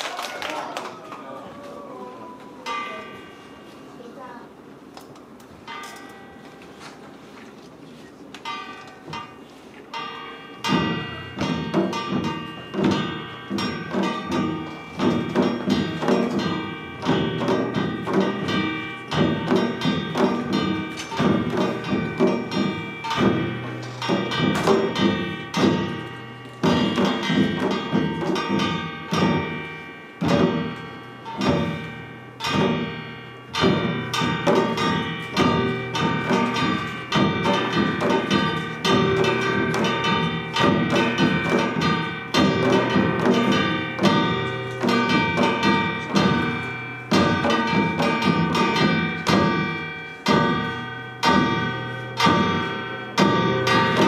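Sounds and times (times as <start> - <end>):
metal gongs ringing: 2.3 - 7.1, 8.4 - 54.0
drums struck in patterns: 8.4 - 54.0.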